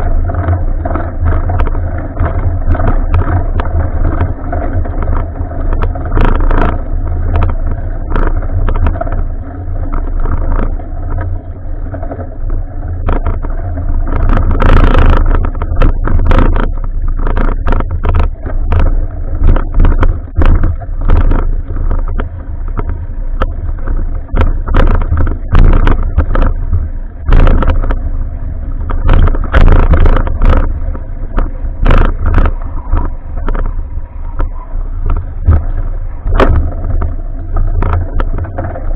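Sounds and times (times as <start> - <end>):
bicycle rattles and knocks: 0.0 - 38.9
wind buffeting microphone: 0.0 - 38.9.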